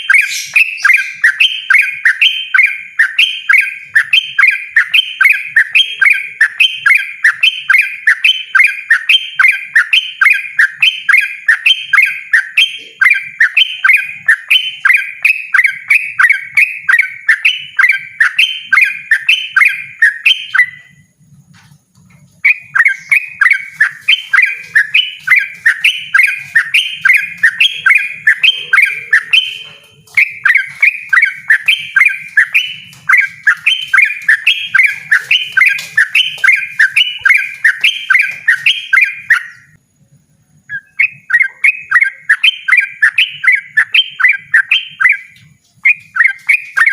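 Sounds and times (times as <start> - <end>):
bird chattering song: 0.0 - 39.8, 40.7 - 46.9.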